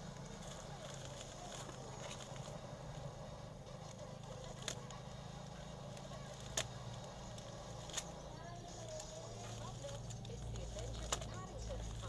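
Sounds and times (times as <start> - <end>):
crackling handling noise: 0.0 - 12.0
steady low hum: 0.0 - 12.0.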